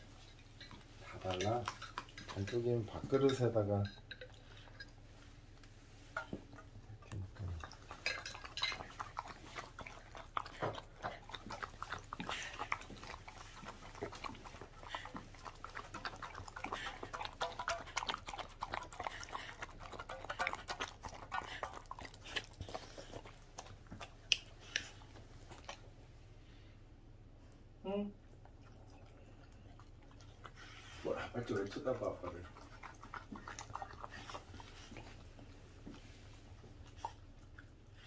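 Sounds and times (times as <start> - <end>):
dog licking metal bowl: 0.0 - 5.3, 6.1 - 25.8, 28.7 - 36.2.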